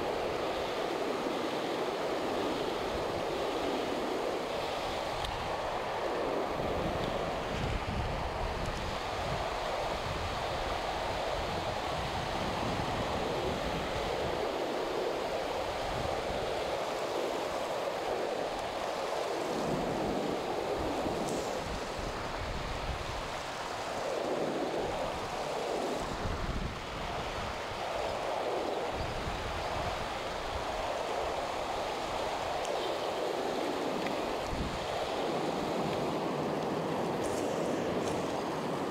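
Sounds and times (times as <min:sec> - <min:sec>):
river water rushing over stones: 0:00.0 - 0:38.9
wind rumbling on microphone: 0:00.0 - 0:38.9.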